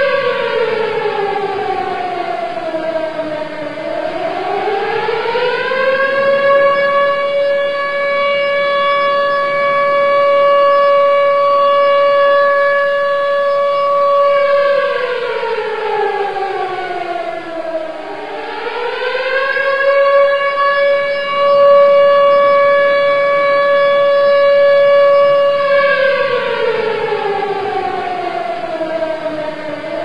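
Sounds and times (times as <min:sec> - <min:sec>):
civil defense siren: 0:00.0 - 0:30.0.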